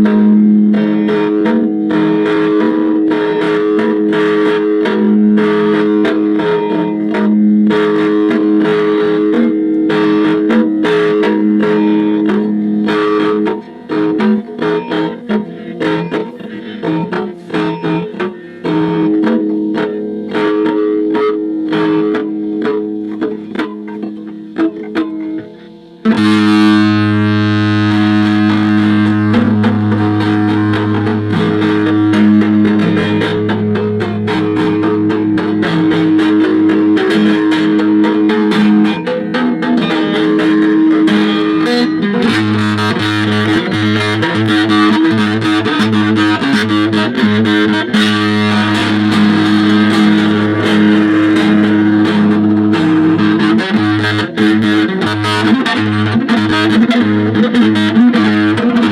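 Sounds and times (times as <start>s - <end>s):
distorted electric guitar: 0.0s - 58.9s.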